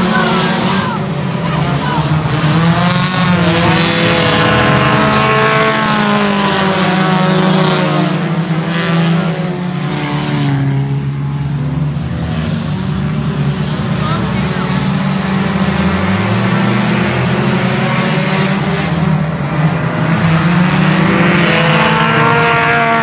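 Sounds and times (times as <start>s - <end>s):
race car engines passing: 0.0s - 23.0s.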